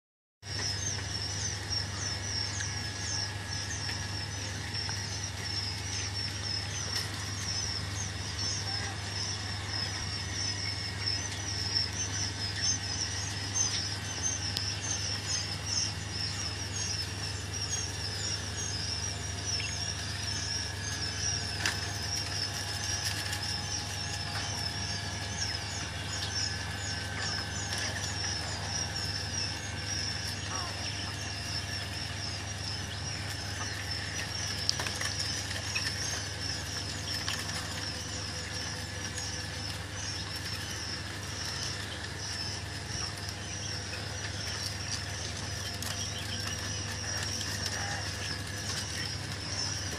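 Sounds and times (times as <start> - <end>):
quail chicks peeping: 0.4 - 49.9
steady low hum: 0.4 - 49.9.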